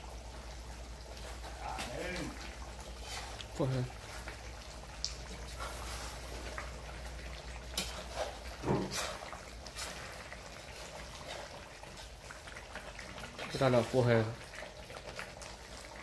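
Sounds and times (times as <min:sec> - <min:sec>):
curry simmering: 0:00.0 - 0:16.0.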